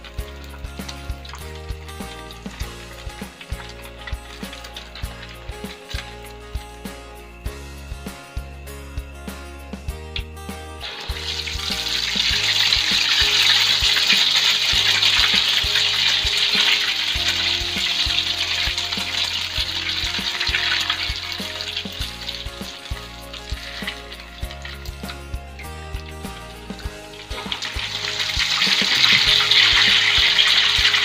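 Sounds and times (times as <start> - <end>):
egg sizzling in hot oil: 0.0 - 7.0, 10.2 - 31.0
background music with steady beat: 0.0 - 31.0.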